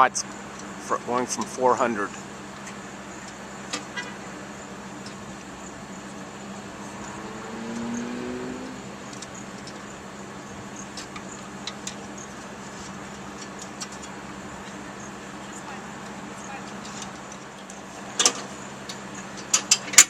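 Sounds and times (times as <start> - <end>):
background traffic: 0.0 - 20.0
vehicle engine hum: 0.0 - 20.0.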